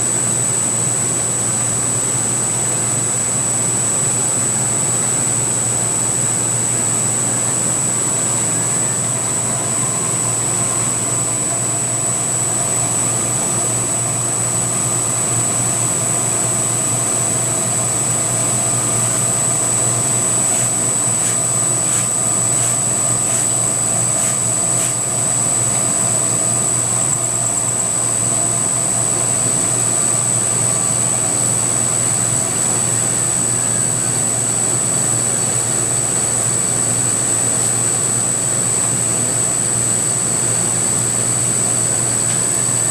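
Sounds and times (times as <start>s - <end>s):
mill machine whining: 1.1s - 42.9s.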